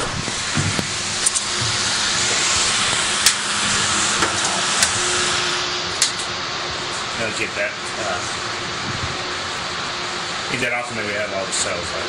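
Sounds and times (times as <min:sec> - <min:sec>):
cooling tower rushing hiss: 0:00.0 - 0:12.0.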